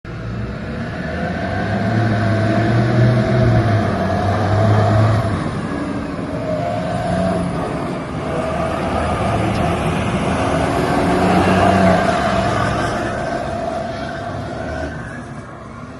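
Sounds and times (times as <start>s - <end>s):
diesel engine revving: 0.1s - 15.9s.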